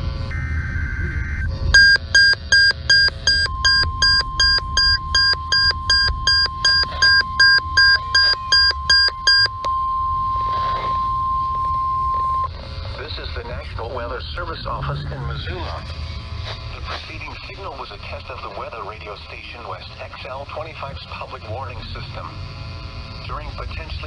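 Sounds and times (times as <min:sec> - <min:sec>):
harsh two-pitch electronic buzz: 0:00.0 - 0:23.8
steady warning alarm tone: 0:00.0 - 0:24.0
weather radio alarm beeping: 0:00.2 - 0:20.6.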